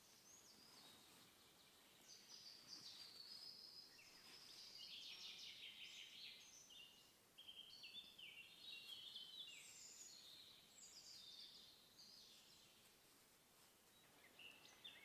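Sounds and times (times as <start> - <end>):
small birds singing: 0.0 - 13.1, 13.8 - 15.0.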